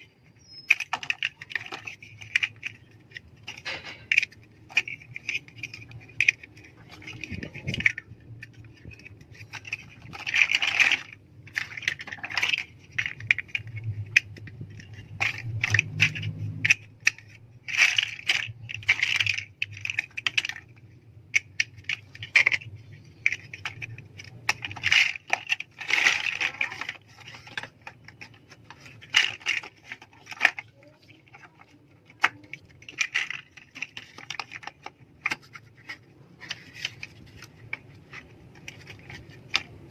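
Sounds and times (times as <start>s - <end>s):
plastic bricks clicking together: 0.0s - 39.9s
plastic pieces rattling: 0.0s - 39.9s.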